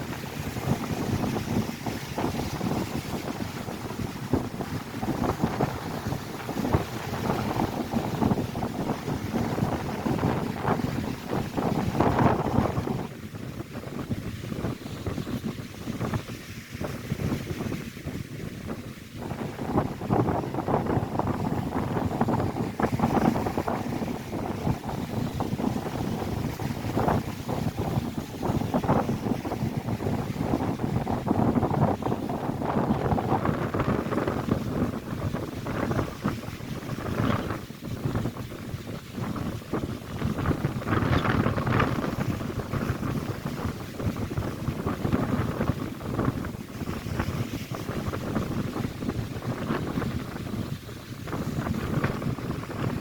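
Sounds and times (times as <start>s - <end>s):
lake waves breaking on shore: 0.0s - 53.0s
wind buffeting microphone: 0.0s - 53.0s.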